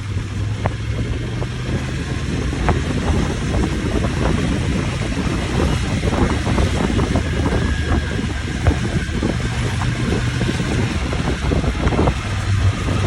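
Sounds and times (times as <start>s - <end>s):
rumbling road noise: 0.0s - 13.0s
vehicle engine drone: 0.0s - 13.0s.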